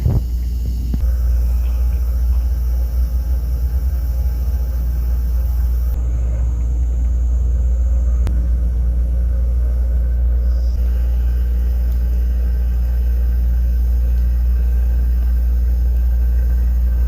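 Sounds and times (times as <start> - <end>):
low mechanical hum and rumble: 0.0 - 17.0.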